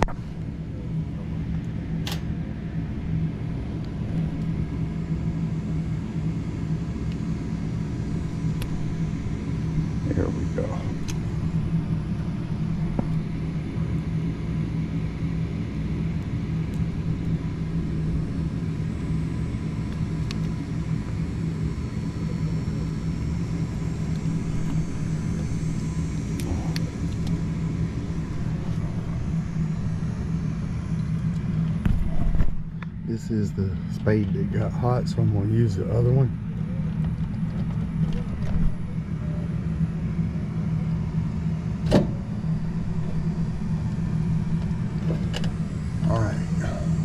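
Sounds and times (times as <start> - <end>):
machinery hum and rumble: 0.0 - 47.0.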